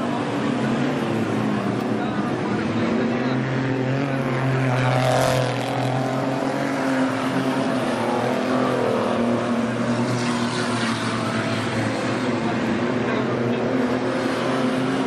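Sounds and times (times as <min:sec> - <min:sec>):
car engines running low revs: 0:00.0 - 0:15.0.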